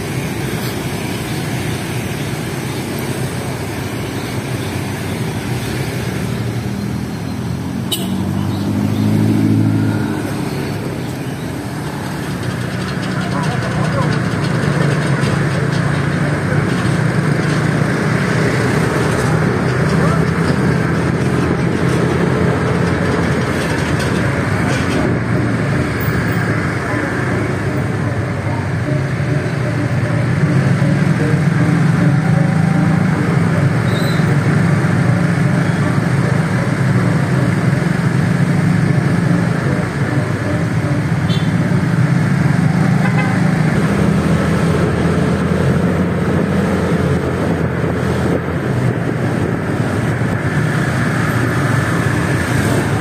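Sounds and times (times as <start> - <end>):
motorbike engines droning: 0.0 - 53.0.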